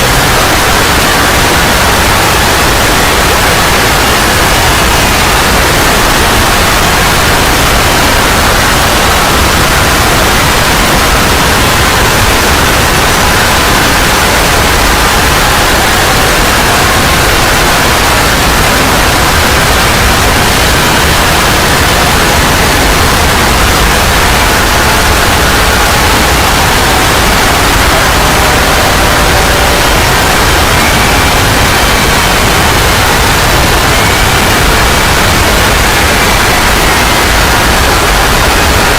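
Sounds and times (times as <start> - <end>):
faint tones: 0.0 - 38.9
loud static hiss: 0.0 - 38.9.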